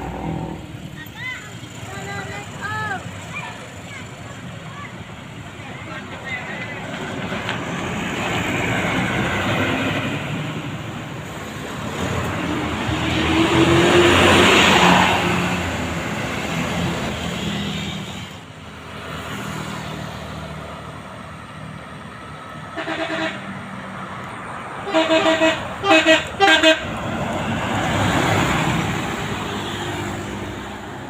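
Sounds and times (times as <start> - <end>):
road traffic passing: 0.0 - 31.0
vehicle engine and tyre noise: 0.0 - 31.0.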